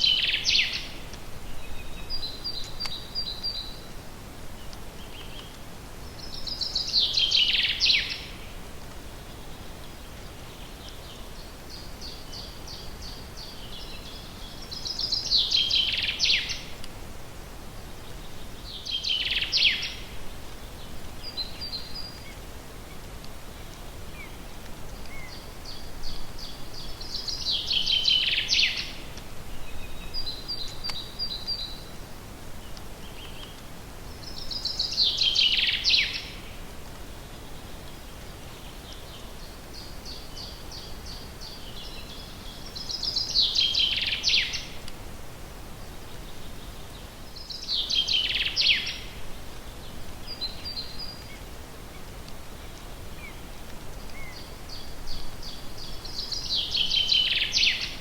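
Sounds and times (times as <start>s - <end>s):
songbird trilling song: 0.0s - 3.9s, 4.6s - 8.5s, 9.3s - 16.8s, 18.1s - 22.4s, 23.5s - 31.9s, 32.6s - 36.6s, 37.6s - 44.9s, 46.1s - 49.2s, 50.2s - 58.0s
faint background hiss: 0.0s - 58.0s.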